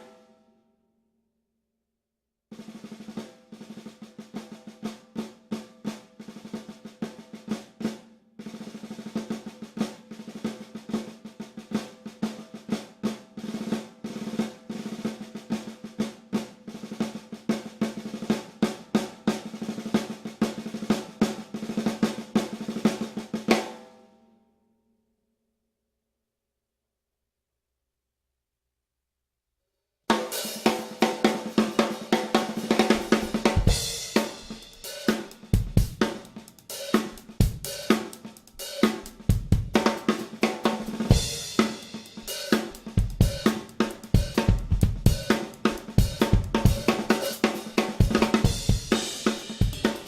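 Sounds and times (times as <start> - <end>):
snare drum roll: 2.5 - 23.9, 30.1 - 50.0.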